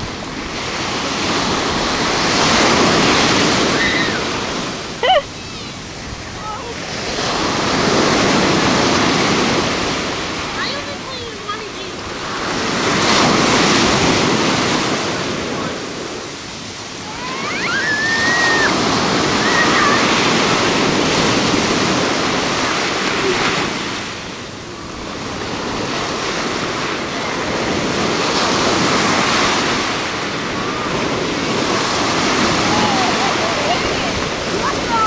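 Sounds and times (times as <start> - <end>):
surf breaking on shore: 0.0 - 35.0.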